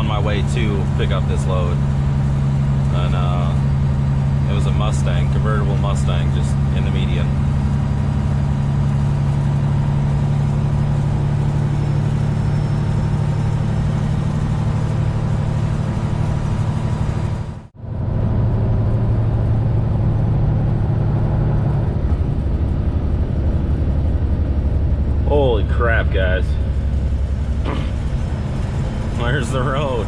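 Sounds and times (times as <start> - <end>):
diesel truck engine running: 0.0 - 30.0
road noise: 0.0 - 30.0.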